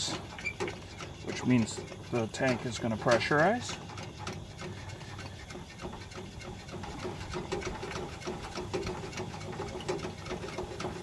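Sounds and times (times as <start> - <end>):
hand pump plunger strokes: 0.0 - 11.0.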